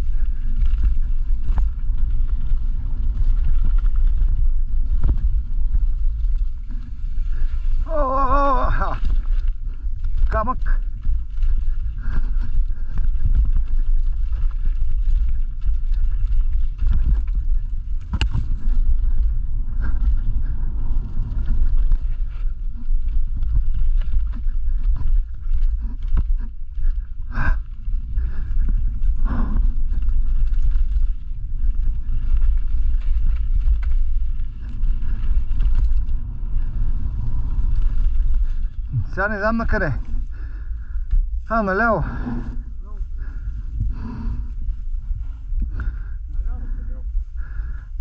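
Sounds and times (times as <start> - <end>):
bike knocking and rattling over rocks: 0.0 - 48.0
wind buffeting microphone: 0.0 - 48.0.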